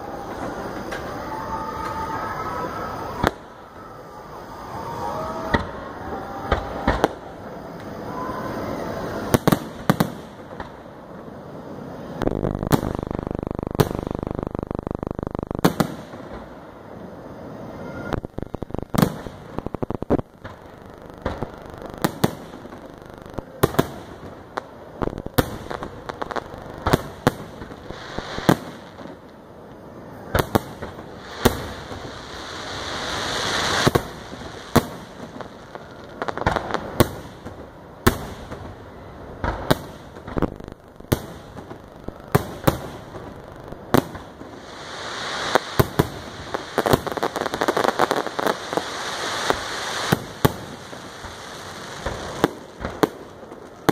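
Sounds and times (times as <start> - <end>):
firework bangs: 0.0 - 53.9
firework crackling hiss: 0.0 - 53.9.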